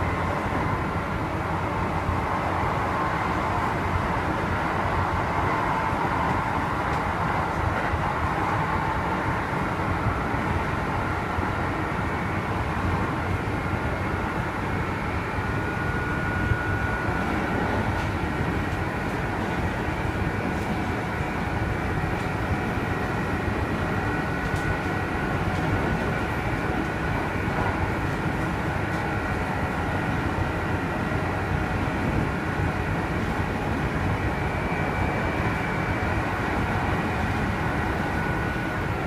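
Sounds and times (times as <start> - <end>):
electric train running rumble: 0.0 - 39.0.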